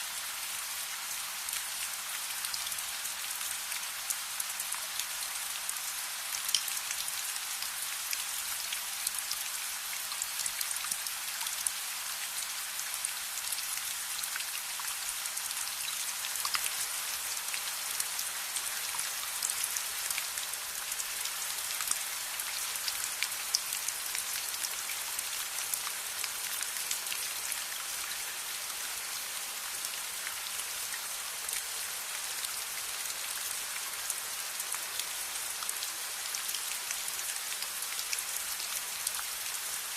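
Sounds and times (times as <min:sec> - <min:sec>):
hiss of falling rain: 0:00.0 - 0:39.9.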